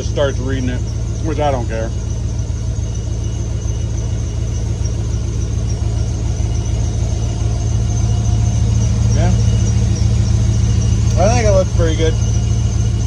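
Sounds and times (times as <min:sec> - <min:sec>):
car engine idling: 0:00.0 - 0:13.0
high squeal of slipping belt: 0:00.0 - 0:13.0.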